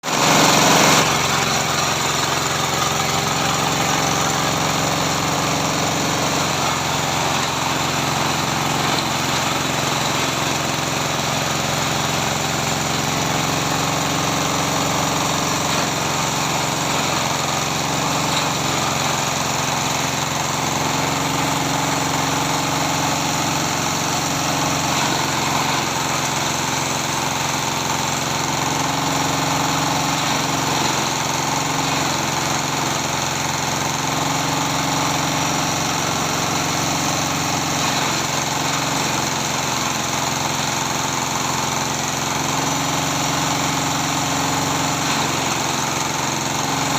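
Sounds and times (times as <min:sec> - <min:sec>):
shredder machine drone: 0:00.0 - 0:46.9.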